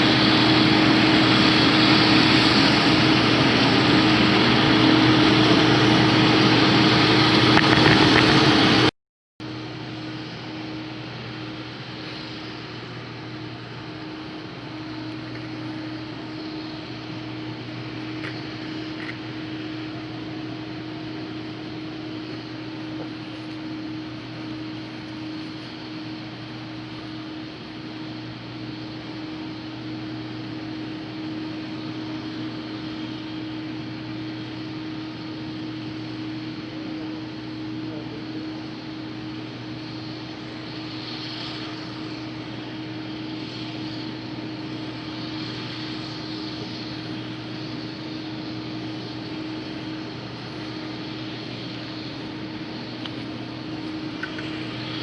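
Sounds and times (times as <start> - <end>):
combine harvester engine hum: 0.0 - 55.0.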